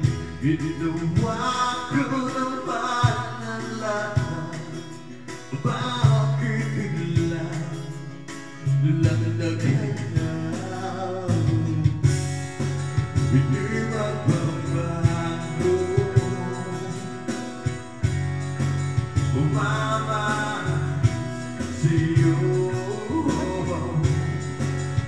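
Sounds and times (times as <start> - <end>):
man singing into a microphone: 0.0 - 18.2, 19.2 - 25.0
backing track with guitar and bass: 0.0 - 25.0.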